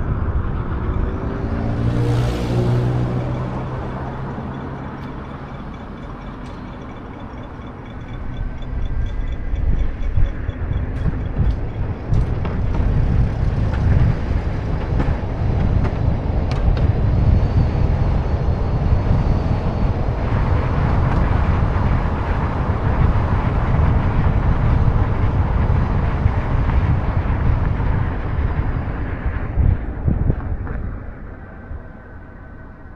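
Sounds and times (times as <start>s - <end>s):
car road noise rumble: 0.0s - 32.9s
rushing wind: 0.0s - 32.9s.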